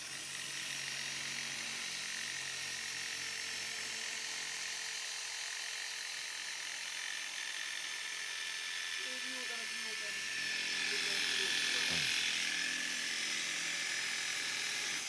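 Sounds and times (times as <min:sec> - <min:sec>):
electric drill motor whine: 0:00.0 - 0:15.0.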